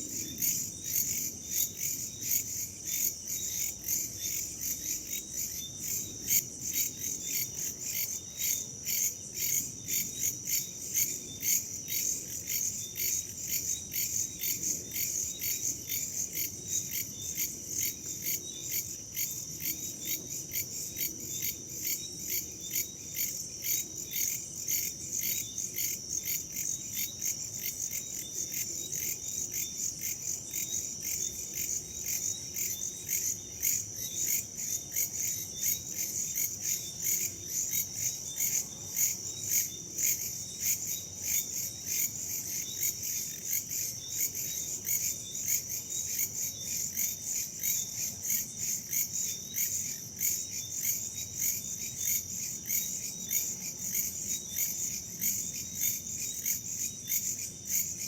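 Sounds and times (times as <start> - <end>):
crickets and insects chirping: 0.0 - 58.0.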